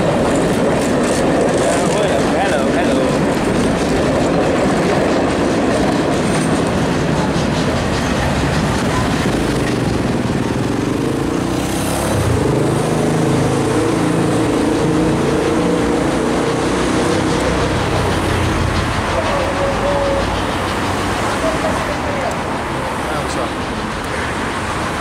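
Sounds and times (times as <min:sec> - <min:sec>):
train wheels clattering on rails: 0:00.0 - 0:25.0.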